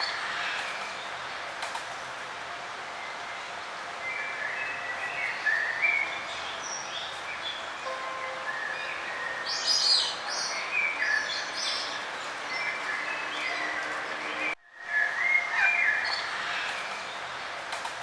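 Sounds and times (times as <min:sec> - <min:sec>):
songbirds chirping and trilling: 0:00.0 - 0:18.0
steady outdoor hiss: 0:00.0 - 0:18.0.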